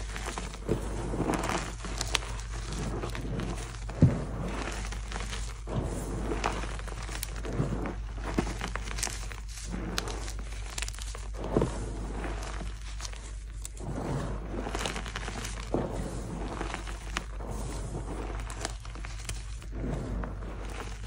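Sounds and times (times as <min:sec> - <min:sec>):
chalk crunching in hands: 0:00.0 - 0:21.0.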